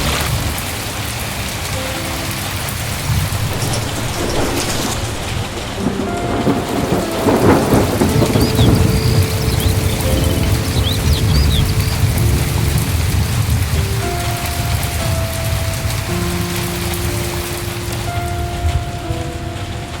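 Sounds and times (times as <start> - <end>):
heavy rain pouring: 0.0 - 20.0
low rumble of thunder: 1.9 - 20.0.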